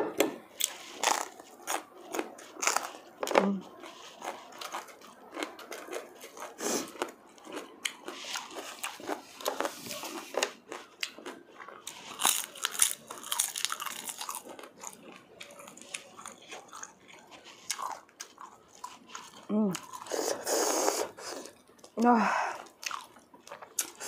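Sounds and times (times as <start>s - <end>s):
person chewing crisp pepper: 0.4s - 24.0s.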